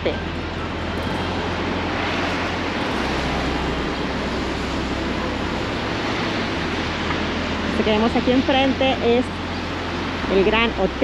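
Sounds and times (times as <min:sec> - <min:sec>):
low rumble: 0:00.0 - 0:11.0
traffic rushing: 0:00.0 - 0:11.0.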